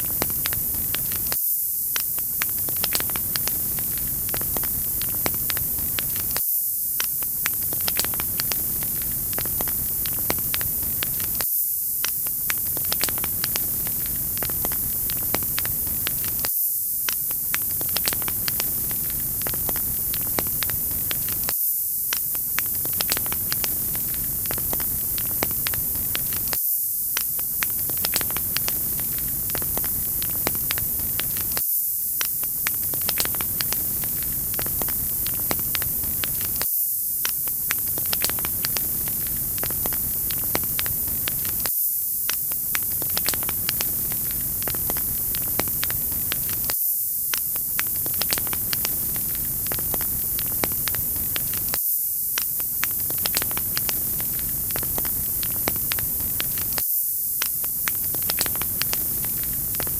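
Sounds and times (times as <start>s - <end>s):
wood fire crackling: 0.0s - 1.4s, 2.0s - 6.4s, 7.0s - 11.4s, 12.0s - 21.5s, 22.1s - 31.6s, 32.2s - 36.6s, 37.2s - 51.8s, 52.4s - 56.8s, 57.4s - 59.9s.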